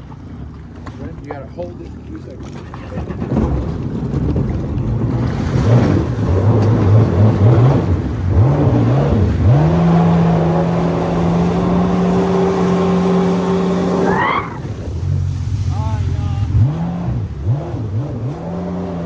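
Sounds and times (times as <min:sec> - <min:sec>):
jet ski engine under throttle: 0:00.0 - 0:19.0.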